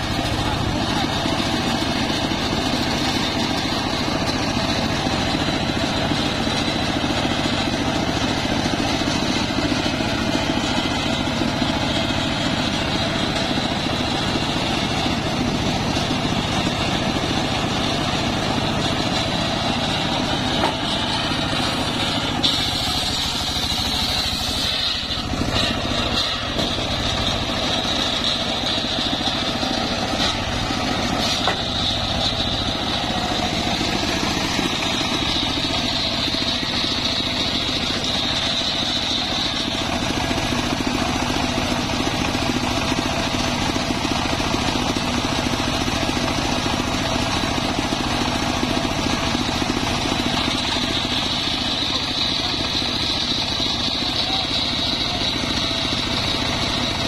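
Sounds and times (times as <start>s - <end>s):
circular sawmill running: 0.0s - 57.0s
high saw blade whine: 0.0s - 57.0s.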